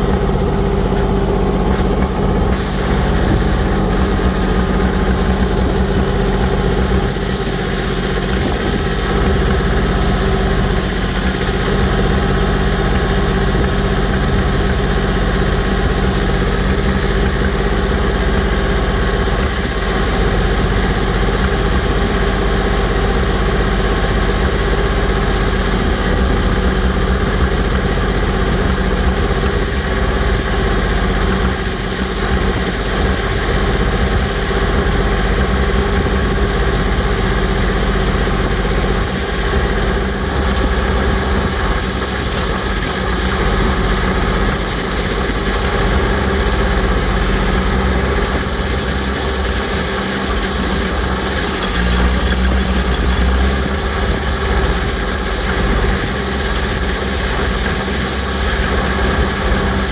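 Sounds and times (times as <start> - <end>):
engine running steadily: 0.0 - 59.9
heavy low rumble: 0.0 - 59.9.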